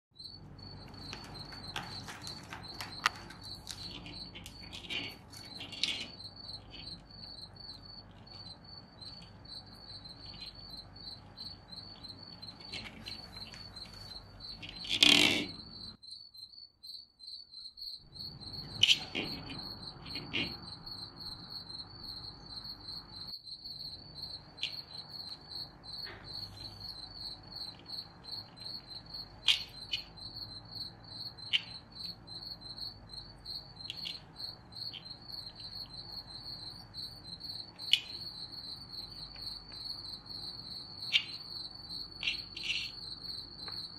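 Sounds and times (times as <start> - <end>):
cricket chirping: 0.2 - 43.9.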